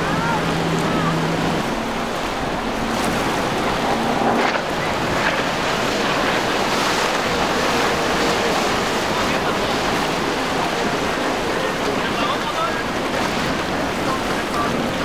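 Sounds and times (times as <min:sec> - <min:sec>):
faint engine hum: 0:00.0 - 0:15.0
rushing water from boat wake: 0:00.0 - 0:15.0
wind buffeting microphone: 0:00.0 - 0:15.0.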